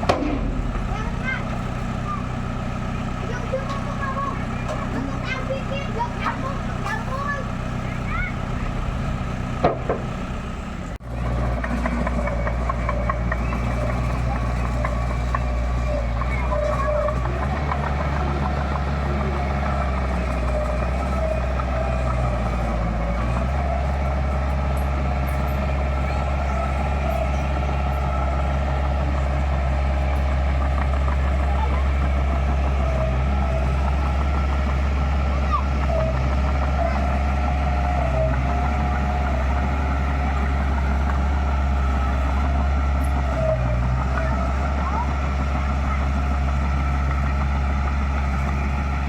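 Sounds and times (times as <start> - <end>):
heavy diesel engine humming: 0.0 - 49.0.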